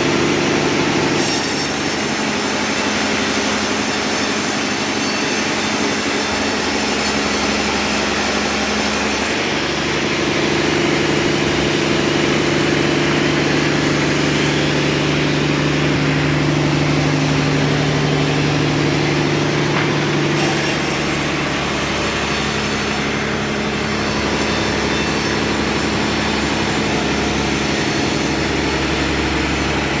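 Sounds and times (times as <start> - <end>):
machine motor humming: 5.4 - 30.0.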